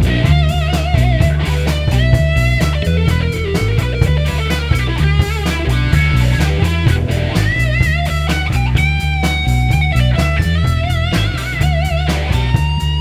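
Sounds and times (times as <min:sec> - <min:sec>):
heavy bass line: 0:00.0 - 0:13.0
lead guitar with bends: 0:00.0 - 0:13.0
steady drum beat: 0:00.0 - 0:13.0.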